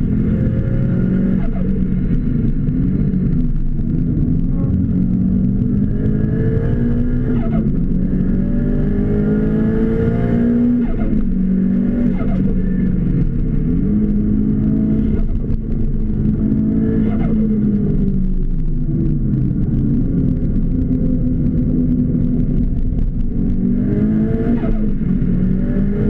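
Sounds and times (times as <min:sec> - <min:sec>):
car engine accelerating and shifting: 0:00.0 - 0:26.0.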